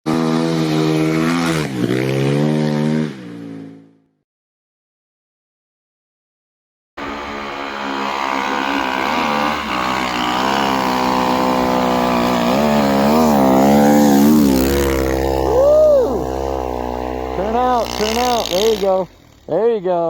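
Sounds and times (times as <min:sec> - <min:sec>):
snowbike engine revving: 0:00.1 - 0:04.2, 0:07.0 - 0:20.0.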